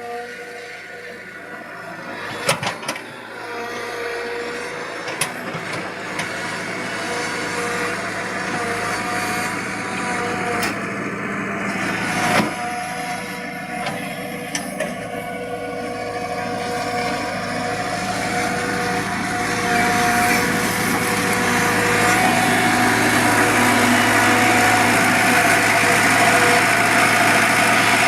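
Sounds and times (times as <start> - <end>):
excavator engine running: 0.0 - 28.0.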